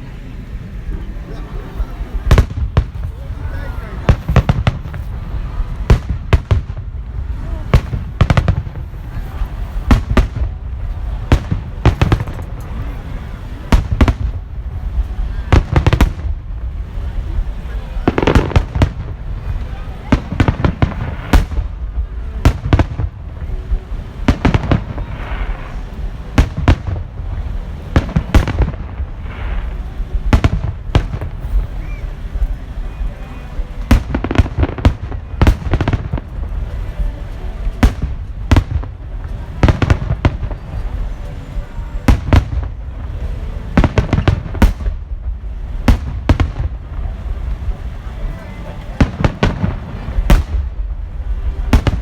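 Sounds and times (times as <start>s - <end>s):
fireworks bursting: 0.0s - 52.0s.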